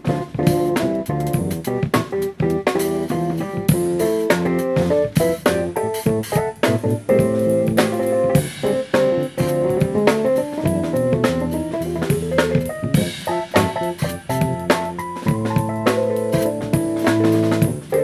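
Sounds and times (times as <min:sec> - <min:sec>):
drum kit playing: 0:00.0 - 0:18.0
keyboard chords: 0:00.0 - 0:18.0.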